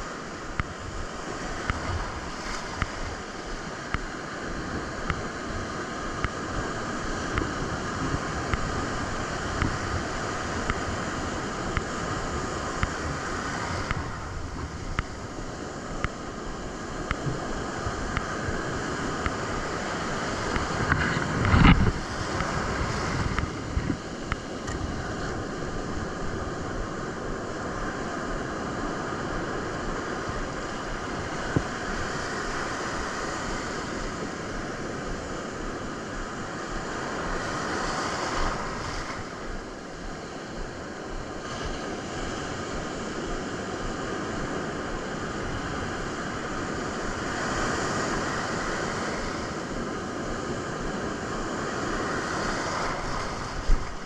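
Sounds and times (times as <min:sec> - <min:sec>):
ocean surf breaking: 0:00.0 - 0:54.0
wind rumbling on microphone: 0:00.0 - 0:54.0.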